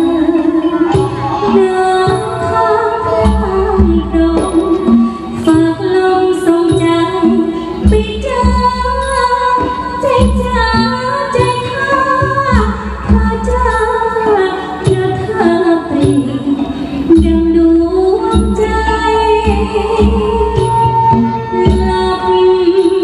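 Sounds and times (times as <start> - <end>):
amplified band accompaniment: 0.0 - 23.0
woman singing into a microphone: 0.0 - 23.0.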